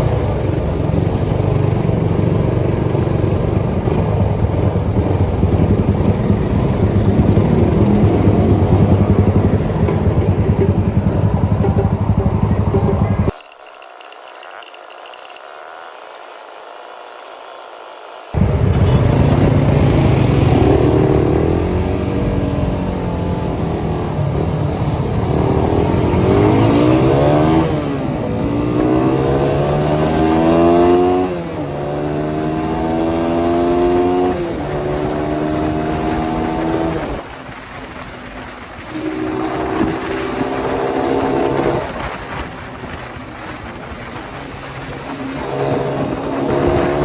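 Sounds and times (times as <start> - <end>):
motorcycle engine accelerating: 0.0 - 13.4, 18.4 - 47.0.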